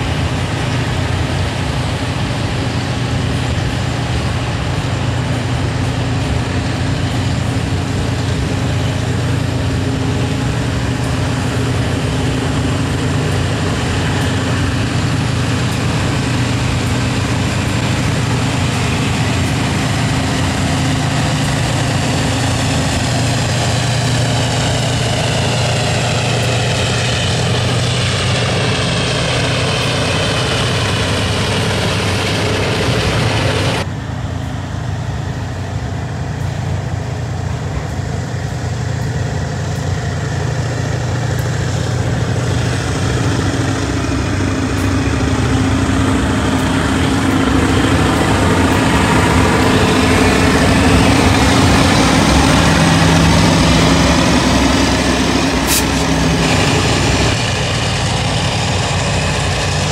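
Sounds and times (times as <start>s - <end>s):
diesel locomotives droning: 0.0s - 59.9s
train rolling on rails: 0.0s - 59.9s.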